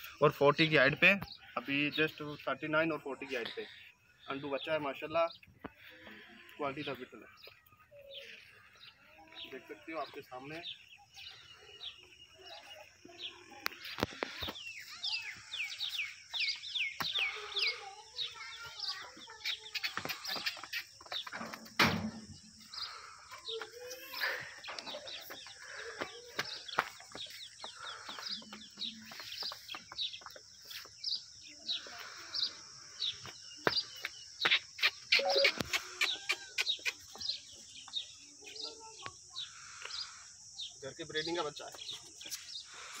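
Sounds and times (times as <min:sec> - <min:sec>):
high falling bird chirps: 0:00.0 - 0:43.0.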